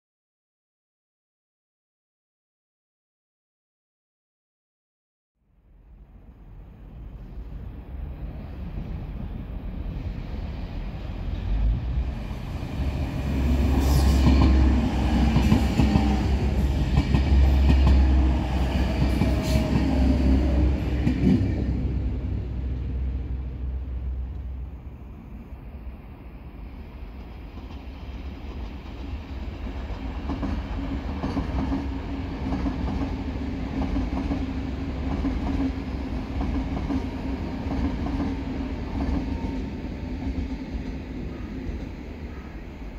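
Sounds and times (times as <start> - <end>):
distant train rumbling past: 5.7 - 42.9.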